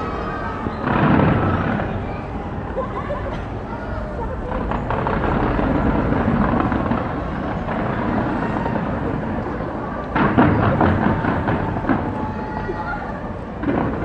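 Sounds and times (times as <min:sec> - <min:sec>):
fireworks bursting: 0:00.0 - 0:14.0
loud fireworks bangs: 0:00.0 - 0:14.0.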